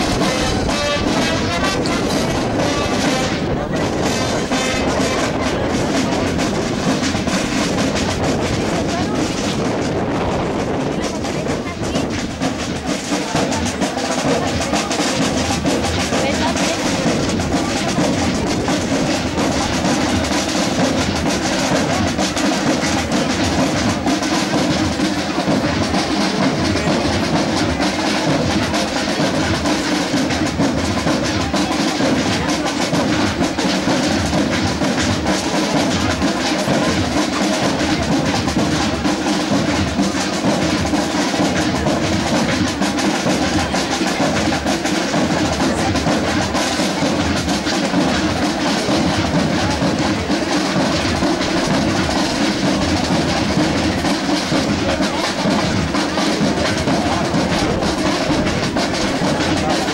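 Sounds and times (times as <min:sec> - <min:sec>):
bass drum beat: 0:00.0 - 0:59.9
military band playing march: 0:00.0 - 0:59.9
snare drums: 0:00.0 - 0:59.9.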